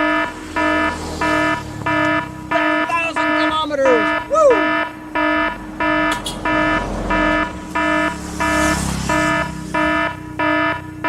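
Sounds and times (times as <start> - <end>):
electronic beeper buzzing: 0.0 - 10.8
low vehicle rumble: 0.0 - 11.0.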